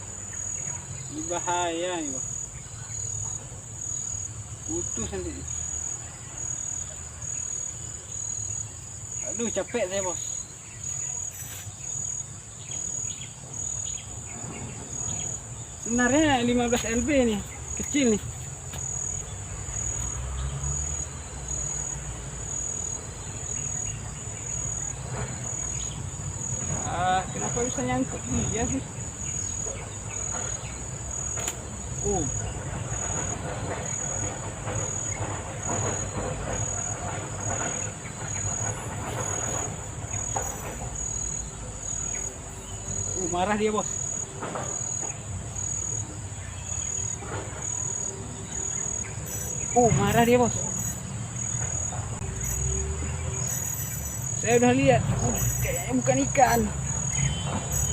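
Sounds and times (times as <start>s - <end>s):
shrill insect chorus: 0.0s - 57.9s.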